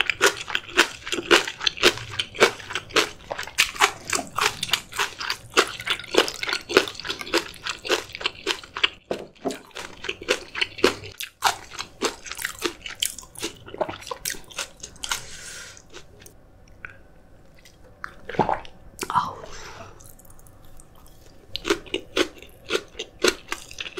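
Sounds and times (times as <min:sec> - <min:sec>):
chewing crunchy food: 0:00.0 - 0:19.2, 0:20.0 - 0:23.9.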